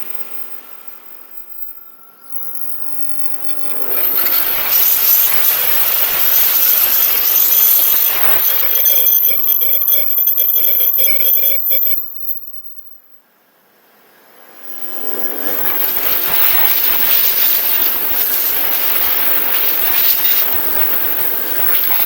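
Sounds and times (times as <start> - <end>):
train rushing past: 0.0 - 12.3, 13.6 - 22.0
high-pitched train tones: 0.0 - 13.3, 14.2 - 22.0.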